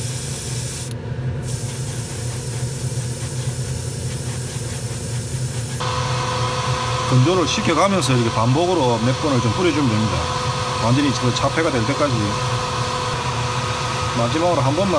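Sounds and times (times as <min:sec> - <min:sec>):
airbrush hissing: 0:00.0 - 0:14.9.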